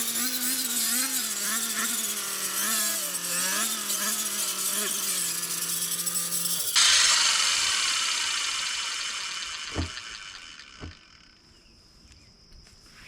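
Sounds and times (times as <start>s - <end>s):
brush cutter engine running: 0.0s - 11.3s.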